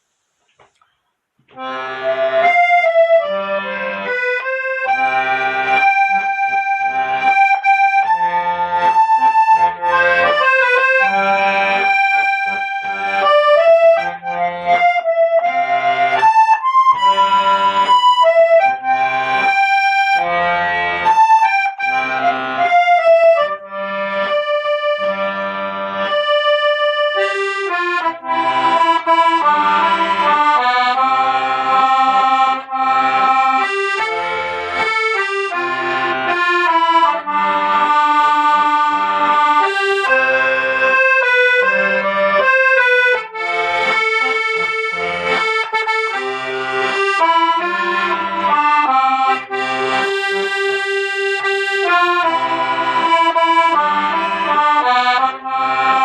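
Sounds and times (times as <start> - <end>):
accordion bass chords: 1.4 - 56.0
accordion melody: 1.4 - 56.0.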